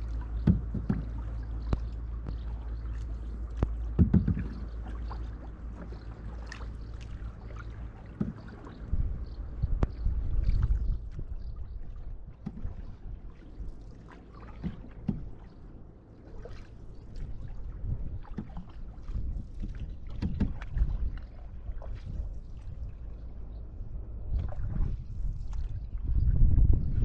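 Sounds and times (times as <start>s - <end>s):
canoe paddle strokes in water: 0.0s - 27.0s
low rumble: 0.0s - 27.0s
water lapping against hull: 0.0s - 27.0s.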